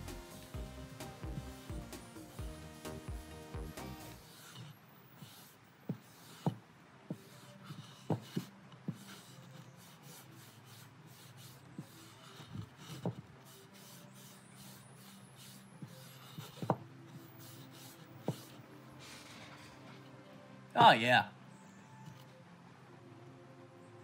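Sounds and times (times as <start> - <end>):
hands rubbing wood: 0.0 - 20.2.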